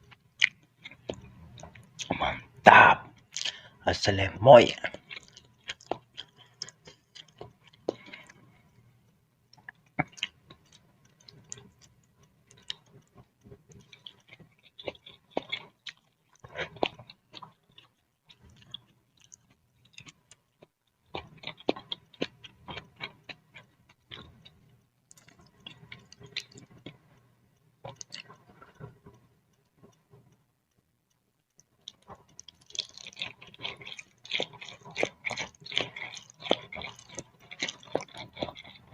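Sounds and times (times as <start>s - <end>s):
chewing noodles with mouth clicks: 4.8s - 8.9s, 9.5s - 27.2s, 27.8s - 38.9s.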